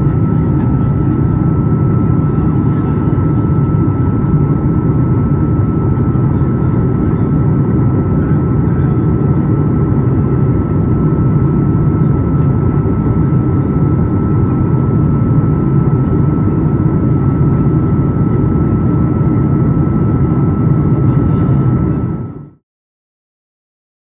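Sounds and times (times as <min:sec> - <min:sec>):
airplane cabin engine rumble: 0:00.0 - 0:22.6
thin steady whine: 0:00.0 - 0:22.6.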